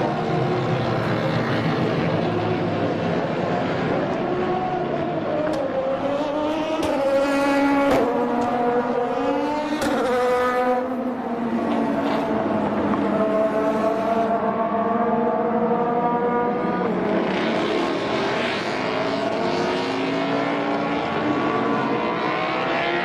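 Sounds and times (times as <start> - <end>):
racing engine accelerating: 0.0 - 23.0.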